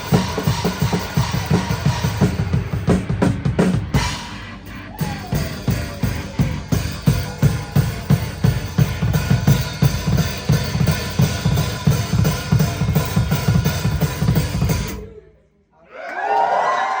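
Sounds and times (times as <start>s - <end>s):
kick and snare drum beat: 0.0s - 4.4s, 5.0s - 15.0s
live band playing: 0.0s - 15.1s.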